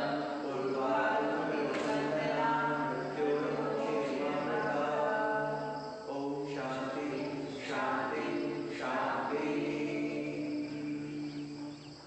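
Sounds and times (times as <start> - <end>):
voices chanting in held tones: 0.0 - 12.0.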